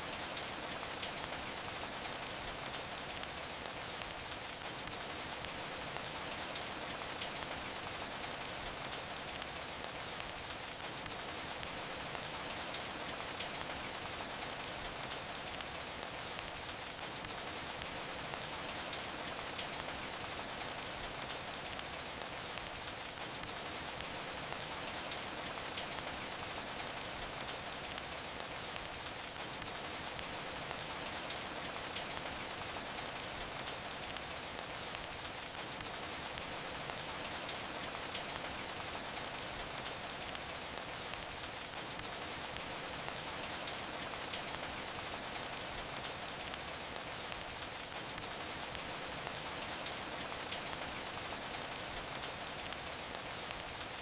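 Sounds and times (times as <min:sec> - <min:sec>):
rain falling: 0:00.0 - 0:54.0
wood fire crackling and popping: 0:00.1 - 0:54.0.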